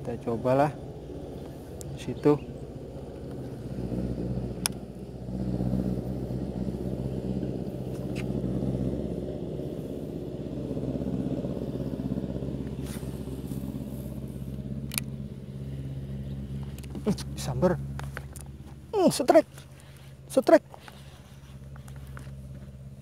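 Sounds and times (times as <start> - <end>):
engine running with low hum: 0.0 - 23.0.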